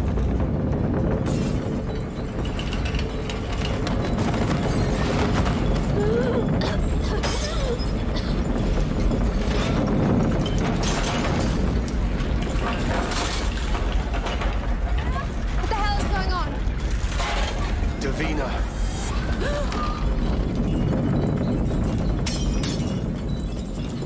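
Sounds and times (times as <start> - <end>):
crashes and rattles: 0.0 - 24.0
low rumble: 0.0 - 24.0.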